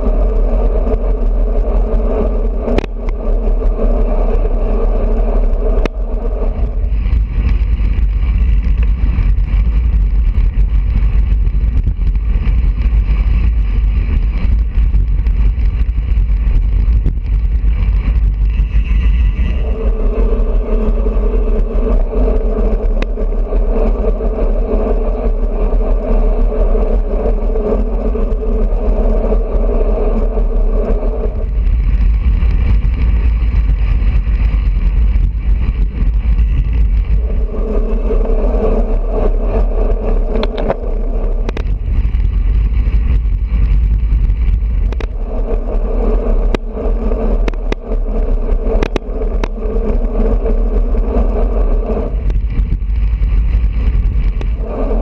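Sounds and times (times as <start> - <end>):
bicycle road rumble: 0.0 - 55.0
droning hum: 0.0 - 55.0
wind buffeting microphone: 0.0 - 55.0.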